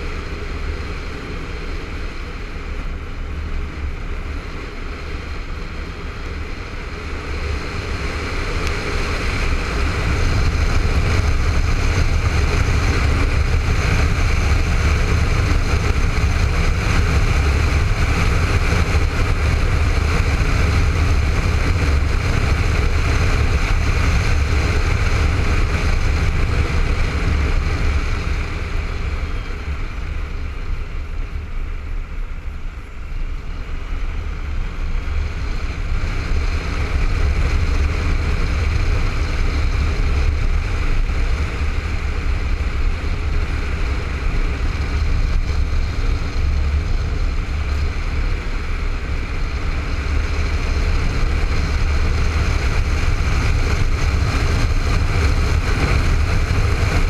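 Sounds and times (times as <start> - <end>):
motorcycle engine: 0.0 - 57.0
wind rushing over camera: 0.0 - 57.0.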